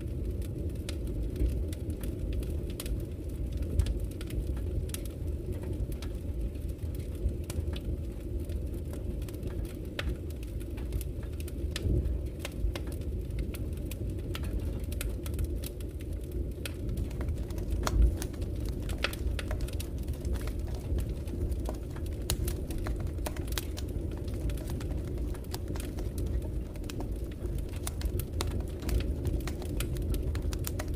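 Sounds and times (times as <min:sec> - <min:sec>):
burning wood crackling and popping: 0:00.0 - 0:30.9
fire flames rumbling: 0:00.0 - 0:30.9.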